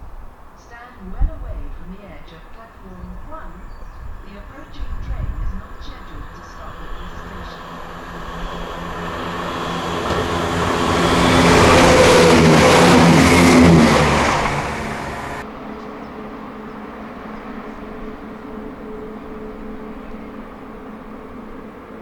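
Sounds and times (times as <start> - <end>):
diesel train passing: 2.2 - 22.0.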